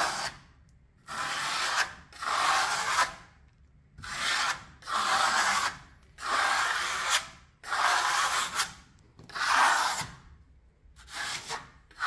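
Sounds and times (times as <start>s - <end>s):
steel trowel spreading plaster: 0.0s - 0.4s, 1.0s - 3.3s, 4.0s - 10.3s, 11.0s - 12.0s.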